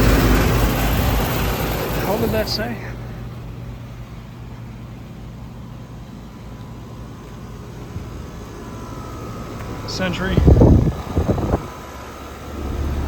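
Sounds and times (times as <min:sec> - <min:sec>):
air conditioning condensers humming: 0:00.0 - 0:13.0.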